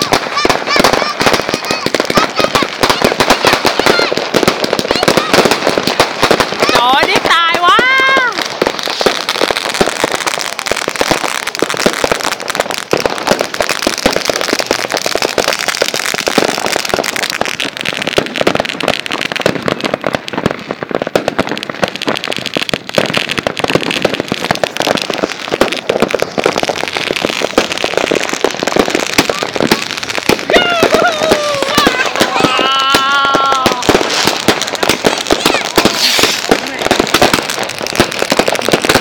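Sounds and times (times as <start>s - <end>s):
firecrackers popping: 0.0s - 39.0s.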